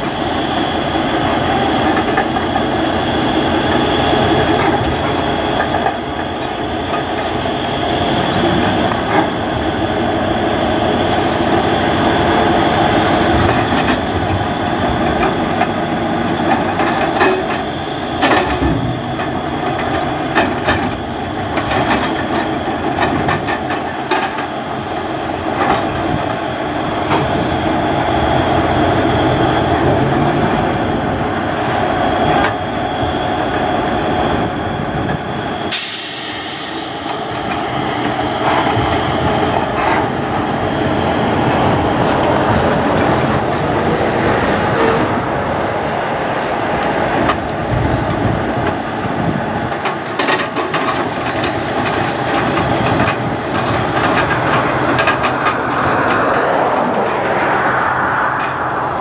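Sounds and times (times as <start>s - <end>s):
clicks and clanks from wheels: 0.0s - 7.4s, 8.4s - 10.1s, 11.5s - 45.1s, 46.4s - 57.1s
high whine: 0.0s - 59.0s
train engine running: 0.0s - 59.0s.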